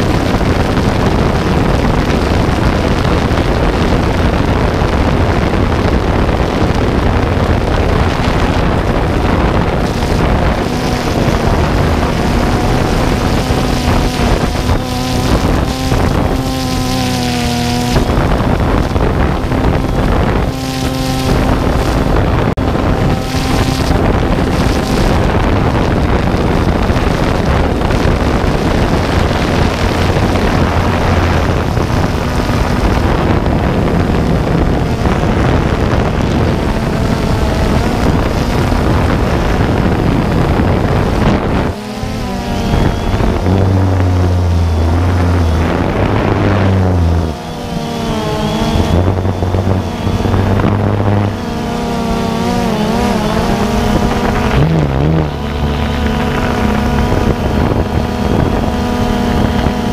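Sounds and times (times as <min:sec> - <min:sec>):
drone motors and propellers: 0:00.0 - 0:59.9
wind noise on microphone: 0:00.0 - 0:59.9.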